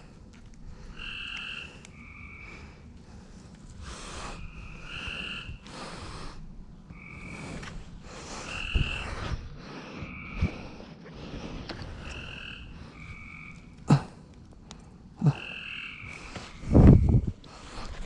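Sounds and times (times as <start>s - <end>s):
frogs calling: 0.7s - 3.0s, 3.8s - 14.1s, 15.2s - 18.0s.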